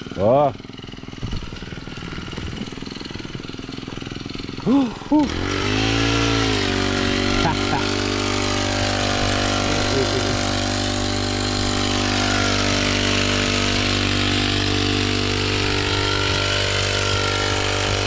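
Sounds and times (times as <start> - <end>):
crop sprayer engine running: 0.0 - 18.0.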